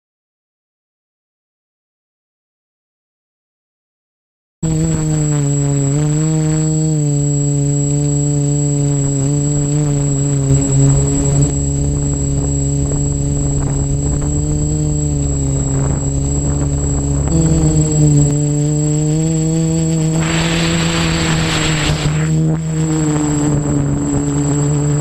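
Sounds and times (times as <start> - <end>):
quadcopter motors buzzing: 4.6 - 25.0.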